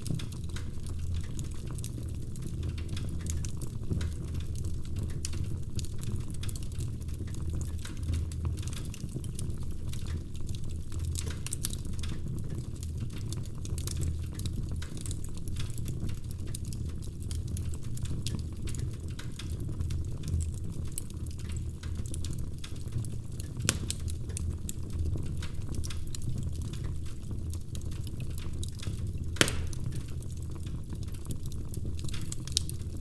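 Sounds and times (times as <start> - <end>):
low rumble of fire: 0.0 - 33.0
wood fire crackling: 0.0 - 33.0.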